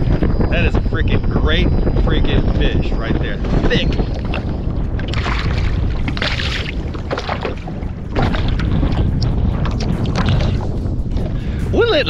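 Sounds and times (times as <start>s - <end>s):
water slapping boat: 0.0s - 12.0s
wind rumbling on microphone: 0.0s - 12.0s.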